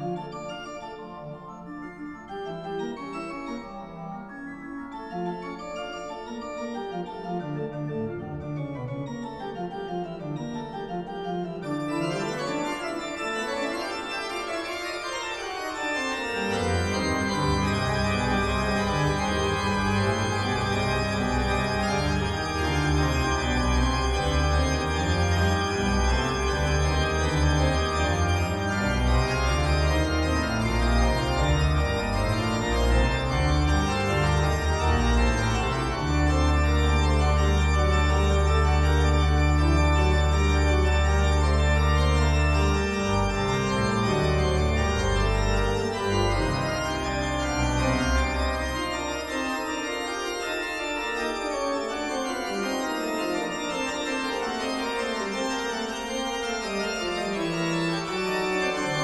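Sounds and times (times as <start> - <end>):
pipe organ playing: 0.0 - 59.0.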